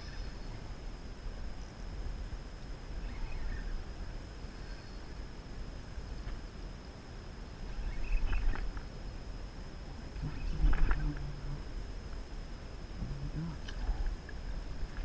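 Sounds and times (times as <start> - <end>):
muffled wind and water rumble: 0.0 - 15.0.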